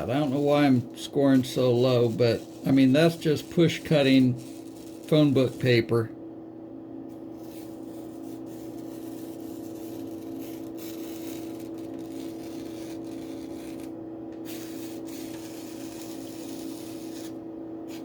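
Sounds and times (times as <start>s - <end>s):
steady pitched hum: 0.0s - 18.0s.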